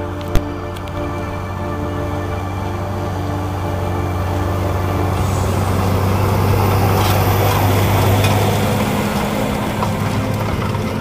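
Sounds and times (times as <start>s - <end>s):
harrow discs cutting soil: 0.0s - 11.0s
tractor engine running: 0.0s - 11.0s.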